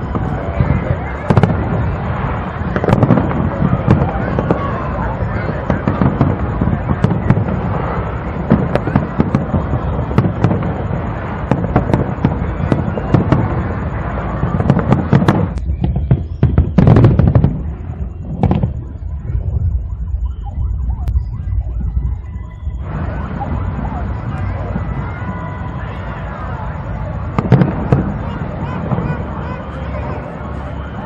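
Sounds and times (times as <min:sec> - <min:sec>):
fireworks bangs and crackling: 0:00.0 - 0:31.0
loud fireworks booms: 0:00.0 - 0:31.0.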